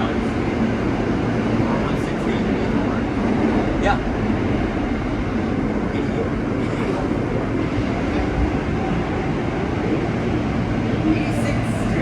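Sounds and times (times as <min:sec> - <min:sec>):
subway car rumbling on rails: 0:00.0 - 0:12.0.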